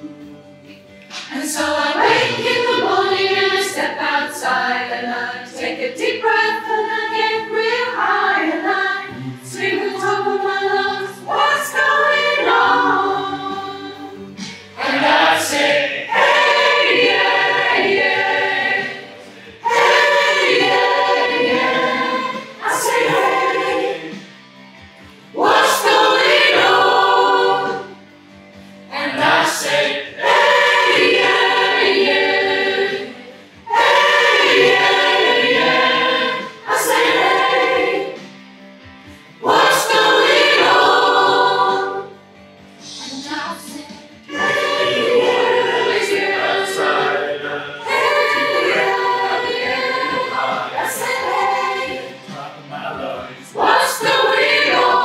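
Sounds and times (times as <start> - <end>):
choir singing: 1.1 - 24.5, 25.2 - 28.1, 28.9 - 38.4, 39.3 - 42.2, 42.8 - 55.0.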